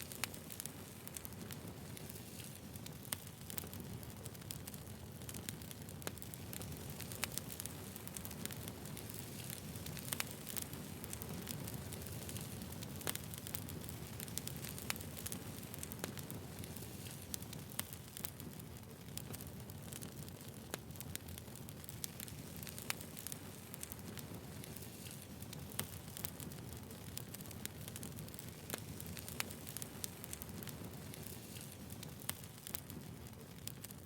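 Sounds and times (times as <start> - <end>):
burning wood crackling and popping: 0.0 - 34.0
low rumble of flames: 0.0 - 34.0.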